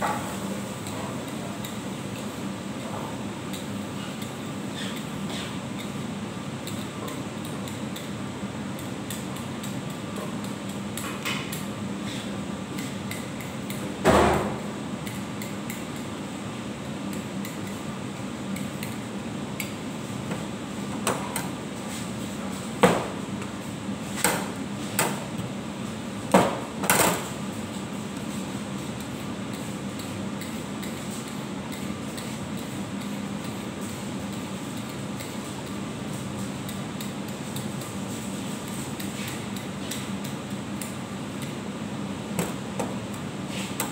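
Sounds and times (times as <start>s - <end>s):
steady background hum: 0.0s - 43.9s.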